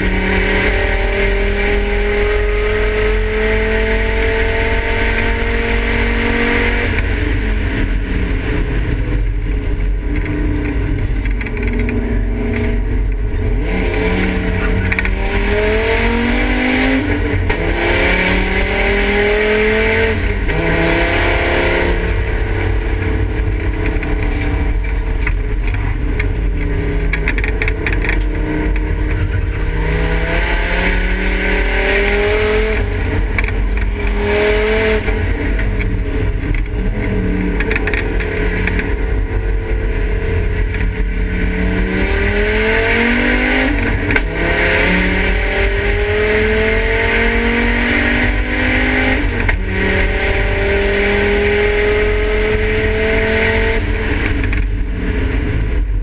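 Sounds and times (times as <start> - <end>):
race car engine accelerating: 0.0 - 56.0
road and wind rumble: 0.0 - 56.0.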